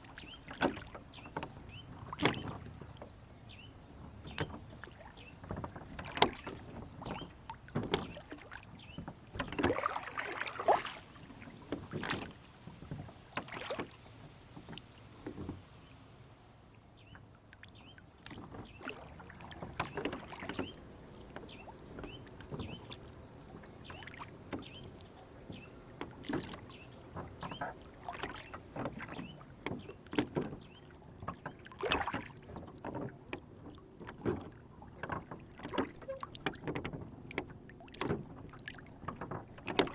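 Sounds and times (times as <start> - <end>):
water lapping against hull: 0.0 - 39.9
knocks on boat: 0.5 - 15.7, 19.5 - 23.0, 23.6 - 39.9.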